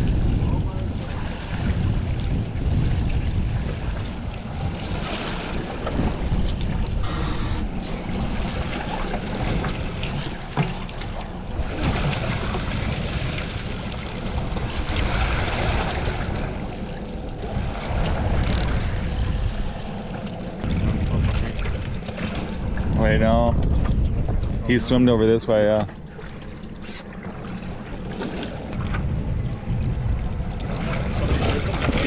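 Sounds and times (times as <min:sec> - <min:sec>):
boat engine rumble: 0:00.0 - 0:32.0
water washing against a hull: 0:00.0 - 0:32.0
wind buffeting the microphone: 0:00.0 - 0:32.0.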